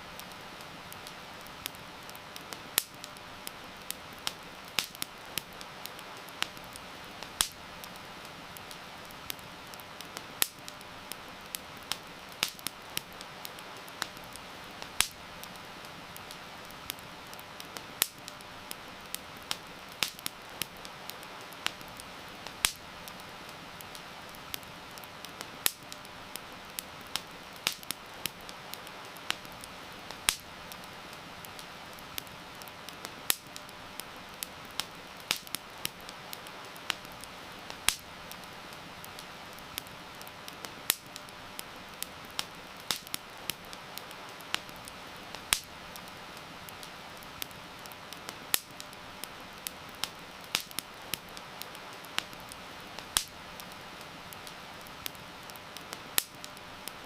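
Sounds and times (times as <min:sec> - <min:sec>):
rain hissing: 0:00.0 - 0:57.0
wood fire crackling and popping: 0:00.0 - 0:57.0.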